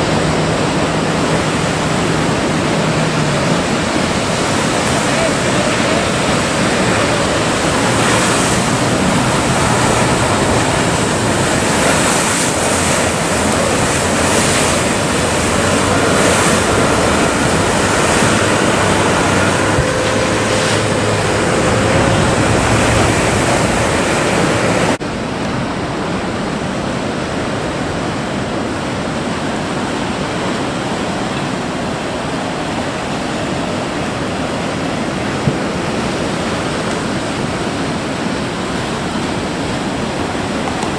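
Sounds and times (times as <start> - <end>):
ocean surf roaring: 0.0 - 40.9.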